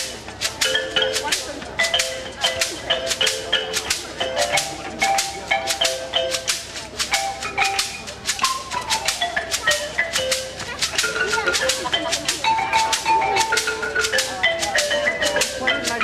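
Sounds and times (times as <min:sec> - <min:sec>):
hand drums playing fast rhythm: 0:00.0 - 0:16.0
stick-struck barrel drums: 0:00.0 - 0:16.0.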